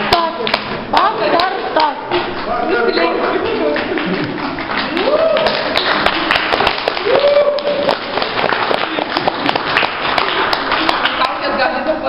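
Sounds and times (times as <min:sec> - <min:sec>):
audience clapping: 0:00.0 - 0:02.6, 0:03.2 - 0:11.5.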